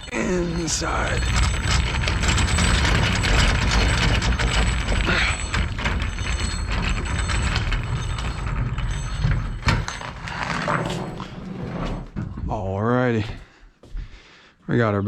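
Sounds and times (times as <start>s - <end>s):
trailer rattling and clicking: 0.0s - 12.6s.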